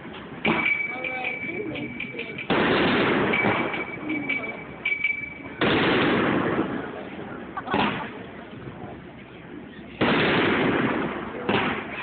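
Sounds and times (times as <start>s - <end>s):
fireworks booming with echo: 0.0s - 9.1s, 9.8s - 12.0s.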